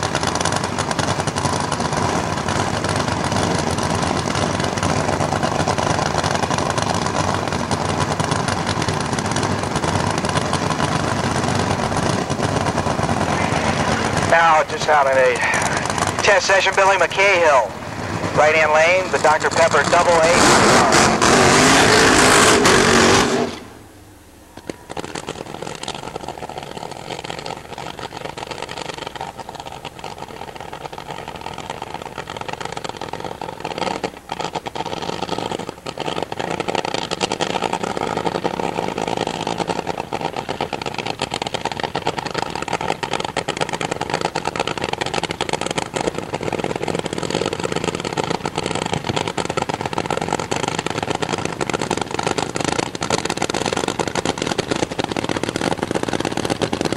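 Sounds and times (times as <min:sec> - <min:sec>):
drag racing engine at full throttle: 0:00.0 - 0:56.9
steady rattling mechanical noise: 0:00.0 - 0:56.9.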